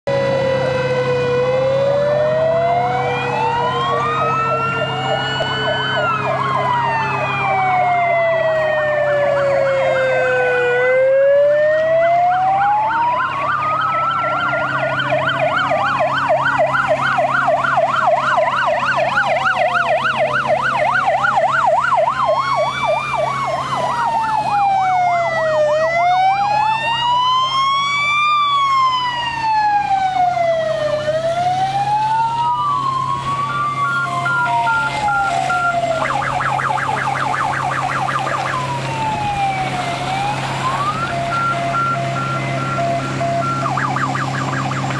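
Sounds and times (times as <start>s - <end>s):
fire engine sirens wailing: 0.0s - 44.9s
truck engine hum: 0.1s - 44.9s
siren fast yelp: 0.3s - 44.9s.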